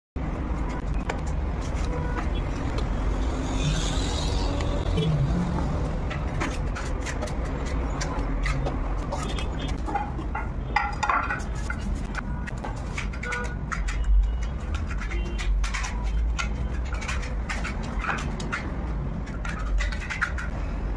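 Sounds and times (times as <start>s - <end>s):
steel trowel scraping and tapping: 0.6s - 20.6s.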